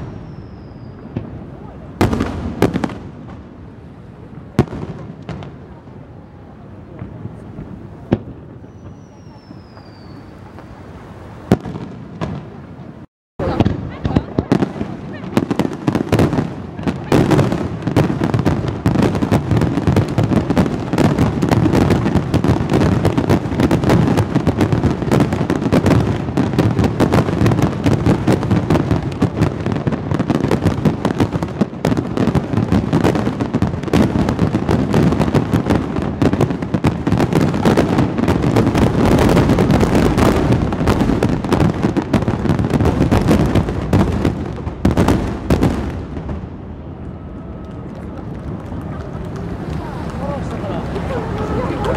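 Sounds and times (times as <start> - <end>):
fireworks booming and crackling: 0.0 - 51.9.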